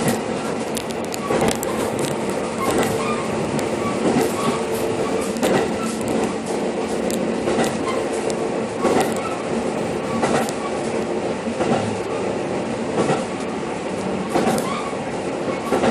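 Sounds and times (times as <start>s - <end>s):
wheels clicking over rail joints: 0.0s - 12.0s, 13.0s - 13.5s, 14.1s - 15.9s
train rolling rumble: 0.0s - 15.9s.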